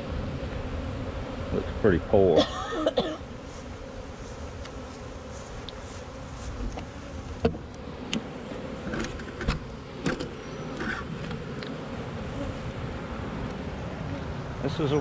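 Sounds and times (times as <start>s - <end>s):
bees humming: 0.0s - 15.0s.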